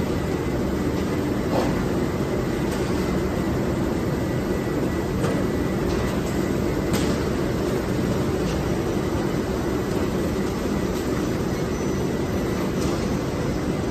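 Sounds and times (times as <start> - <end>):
conveyor line din: 0.0 - 13.9
thin steady whine: 0.0 - 13.9.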